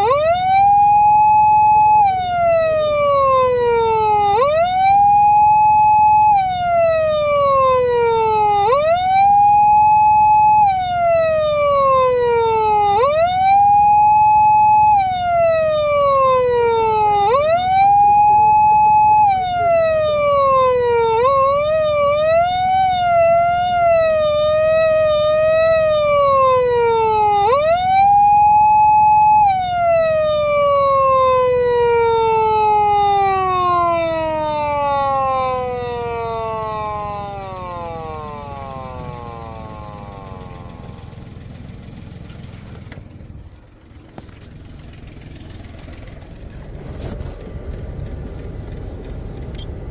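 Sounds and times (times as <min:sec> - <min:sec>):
police siren wailing: 0:00.0 - 0:47.5.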